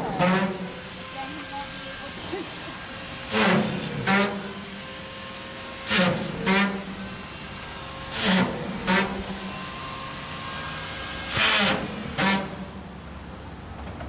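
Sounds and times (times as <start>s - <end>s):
power tool buzzing whir: 0.0s - 12.8s
construction site background noise: 0.0s - 14.0s.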